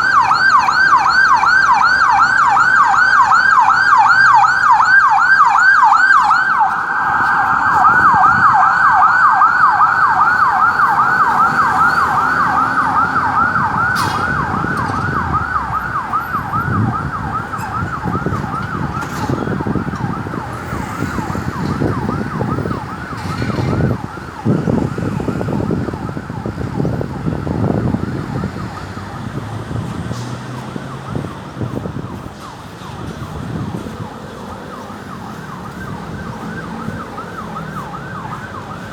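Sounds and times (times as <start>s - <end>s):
ambulance siren yelping: 0.0s - 38.9s
low traffic noise: 0.0s - 38.9s.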